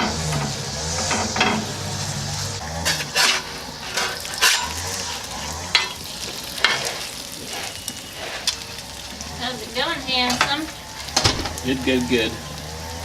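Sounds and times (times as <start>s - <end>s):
scraping against a griddle: 0.0s - 11.6s
food sizzling on a griddle: 0.0s - 13.0s.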